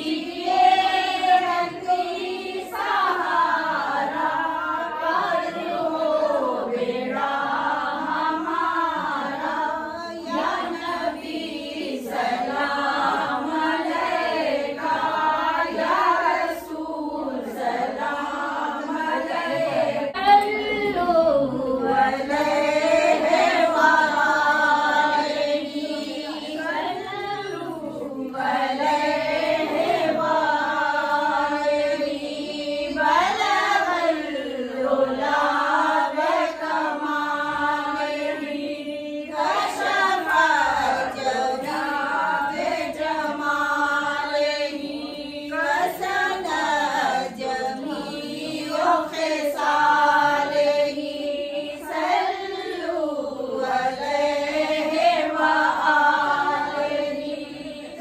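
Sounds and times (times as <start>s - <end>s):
women chanting in unison: 0.0s - 58.0s.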